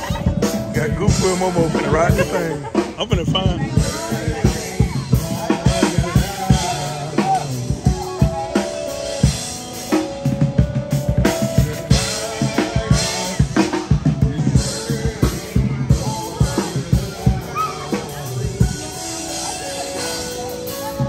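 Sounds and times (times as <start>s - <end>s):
music with drum-kit beat: 0.0s - 21.0s.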